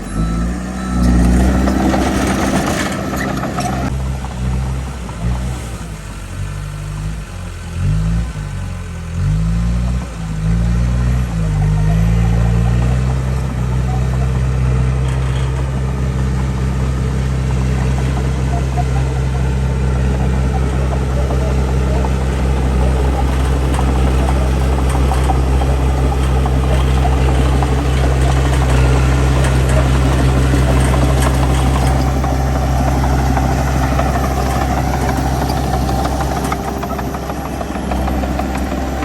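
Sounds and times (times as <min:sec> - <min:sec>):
heavy diesel engine droning: 0:00.0 - 0:39.0.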